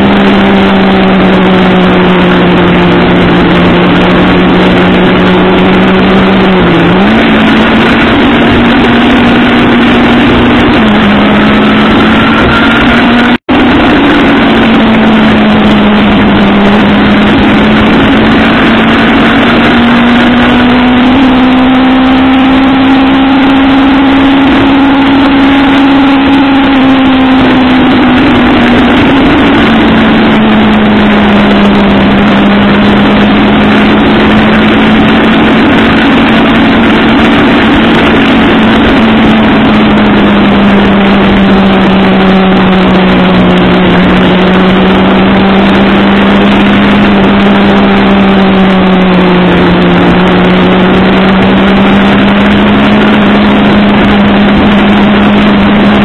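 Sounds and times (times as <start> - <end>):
loud wind rush: 0.0 - 56.0
motorcycle engine cruising: 0.0 - 56.0.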